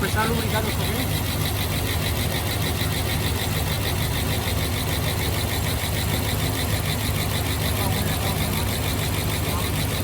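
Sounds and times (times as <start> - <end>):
engine idling: 0.0 - 10.0
fast even engine ticking: 0.0 - 10.0.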